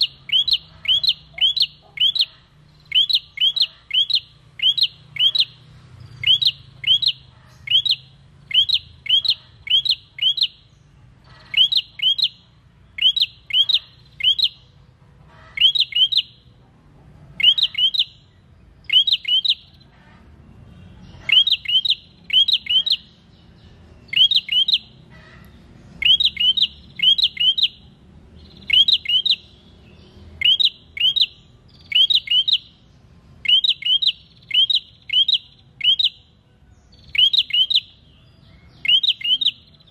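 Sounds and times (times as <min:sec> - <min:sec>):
bird singing whistled notes: 0:00.0 - 0:14.7, 0:15.6 - 0:16.5, 0:17.4 - 0:19.8, 0:21.0 - 0:25.0, 0:25.9 - 0:39.9.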